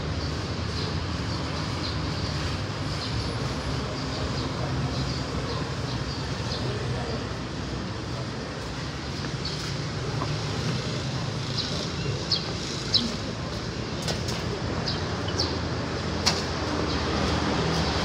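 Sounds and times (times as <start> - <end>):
road traffic hum: 0.0 - 18.0.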